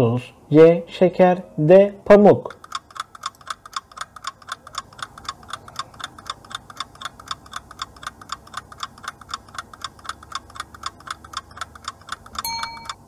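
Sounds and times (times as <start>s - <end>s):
rapid clock ticking: 2.5s - 13.0s.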